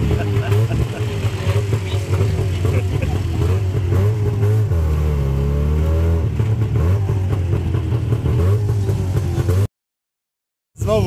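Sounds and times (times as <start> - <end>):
auto rickshaw engine revving: 0.0 - 9.7.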